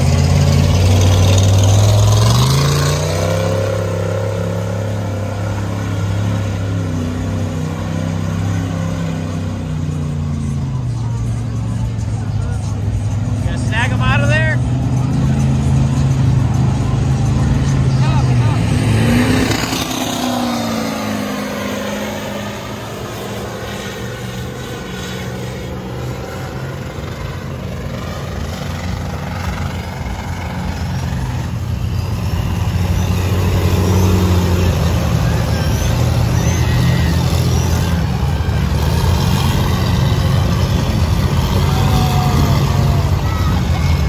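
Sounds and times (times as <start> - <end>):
truck engines in mud: 0.0 - 44.0.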